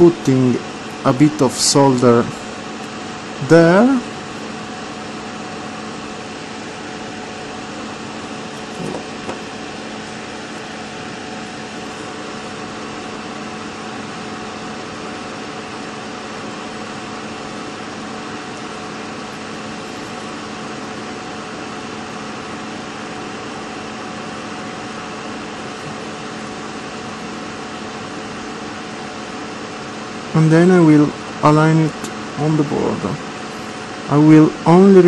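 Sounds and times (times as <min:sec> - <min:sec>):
mechanical hum and whir: 0:00.0 - 0:35.0.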